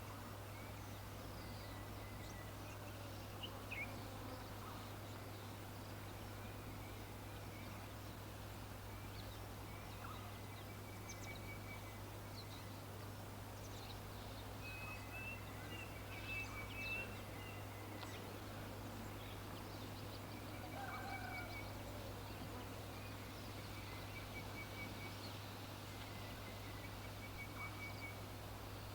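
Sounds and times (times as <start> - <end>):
faint bird chirps and trills: 0.0 - 28.9
steady background noise: 0.0 - 28.9.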